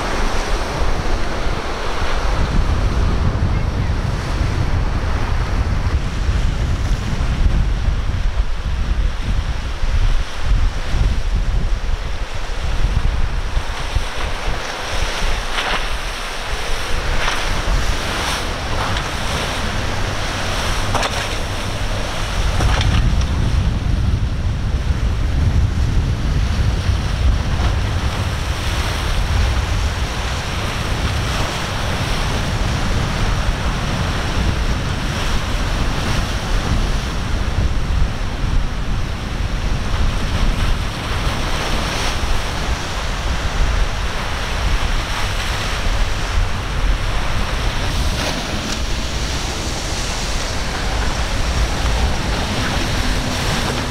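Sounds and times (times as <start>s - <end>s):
waves breaking: 0.0s - 53.9s
wind buffeting microphone: 0.0s - 53.9s.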